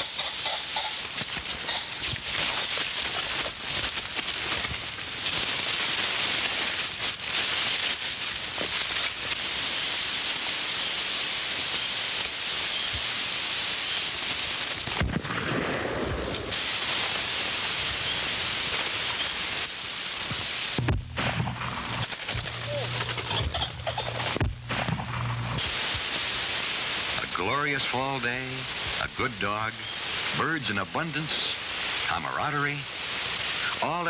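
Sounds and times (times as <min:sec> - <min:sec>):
rustling through dry cornstalks: 0:00.0 - 0:34.0.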